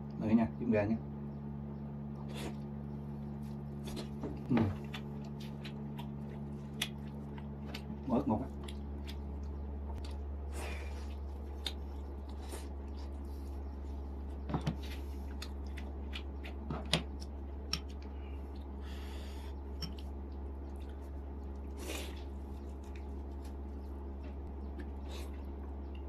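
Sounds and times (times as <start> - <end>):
steady low hum: 0.0 - 26.0
wet chewing sounds: 2.1 - 26.0.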